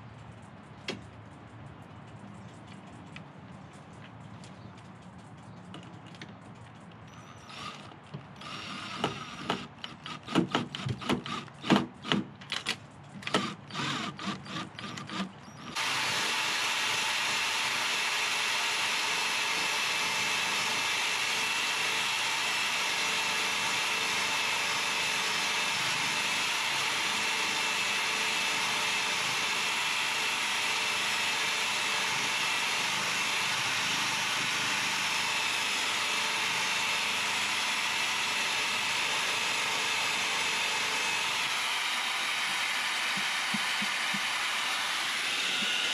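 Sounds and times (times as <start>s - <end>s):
cordless drill driving screws: 7.2s - 12.2s, 13.2s - 45.9s.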